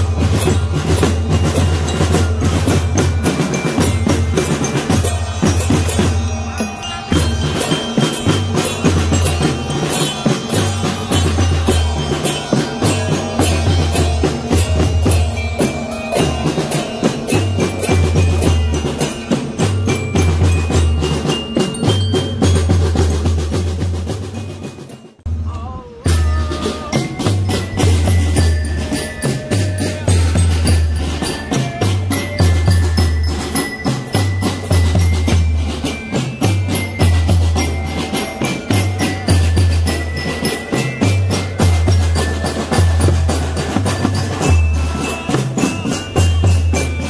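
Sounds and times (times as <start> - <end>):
heavy bass drum beats: 0.0 - 47.0
high bell-like melody: 0.0 - 47.0.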